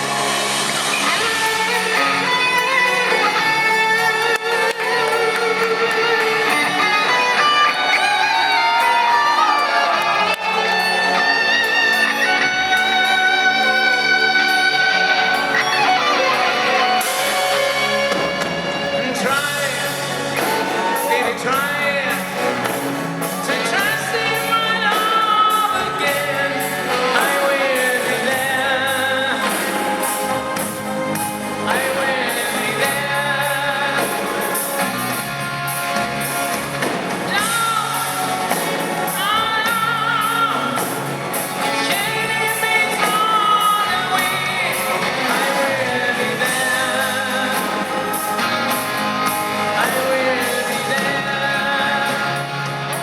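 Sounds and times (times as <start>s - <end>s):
electric guitars: 0.0s - 53.0s
singer: 0.0s - 53.0s.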